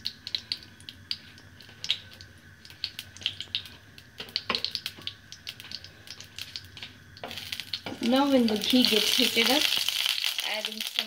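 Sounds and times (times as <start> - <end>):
ghee crackling in pan: 0.0 - 11.0.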